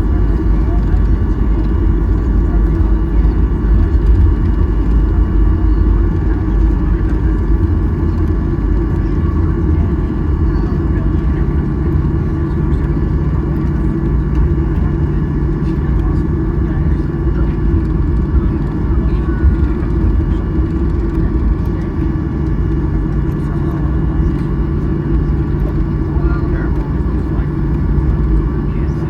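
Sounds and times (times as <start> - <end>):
airplane cabin rumble and hum: 0.0 - 29.0
indistinct passenger voices: 0.0 - 29.0
low hum: 0.0 - 29.0.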